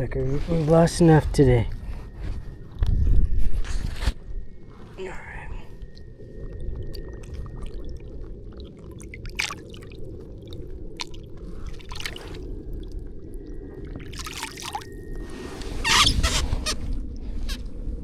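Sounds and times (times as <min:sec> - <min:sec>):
water sloshing and splashing: 0:01.8 - 0:18.0.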